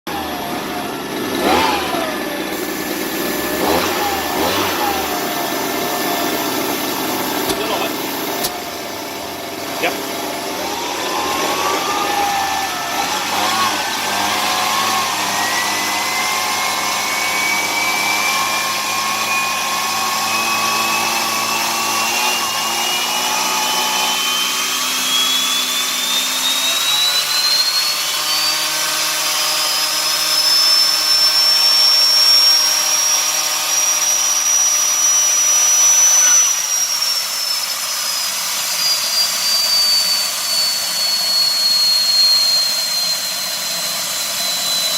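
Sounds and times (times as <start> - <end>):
gas turbine whine rising: 0.1 - 33.2, 33.8 - 44.9.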